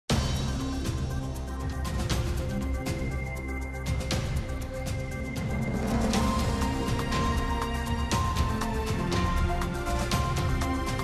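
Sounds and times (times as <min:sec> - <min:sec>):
instrumental theme music: 0:00.1 - 0:11.0.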